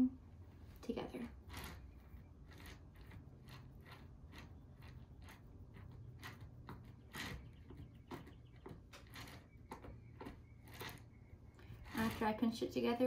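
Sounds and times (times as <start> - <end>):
fingers squishing clay: 1.6 - 12.4.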